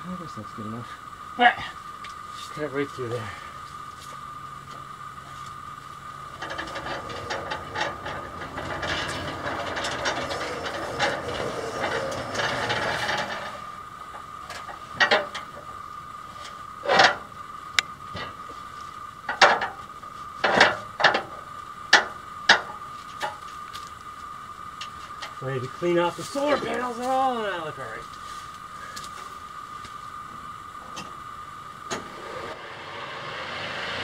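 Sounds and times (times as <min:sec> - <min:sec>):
steady high whine: 0:00.0 - 0:34.0.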